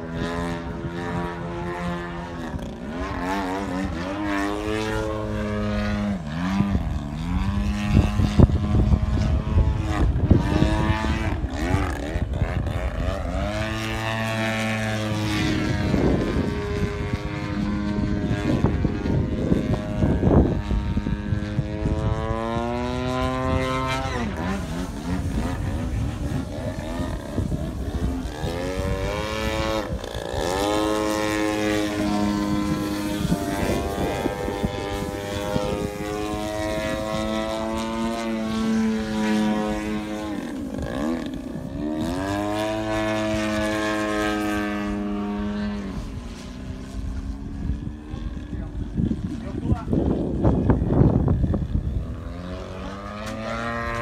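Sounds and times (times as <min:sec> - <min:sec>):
model plane engine: 0:00.0 - 0:54.0.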